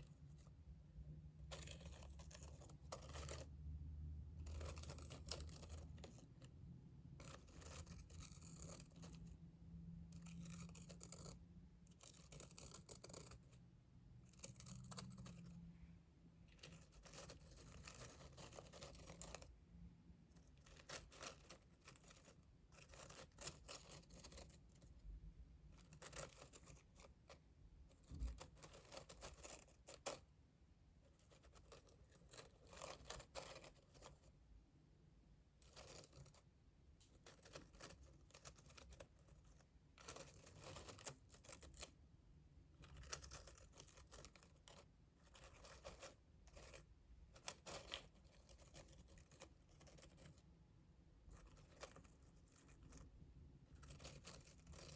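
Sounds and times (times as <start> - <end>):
soft scratchy strokes: 0.0 - 19.6, 20.2 - 25.1, 25.7 - 30.3, 31.0 - 34.4, 35.6 - 42.0, 42.7 - 50.5, 51.2 - 54.9.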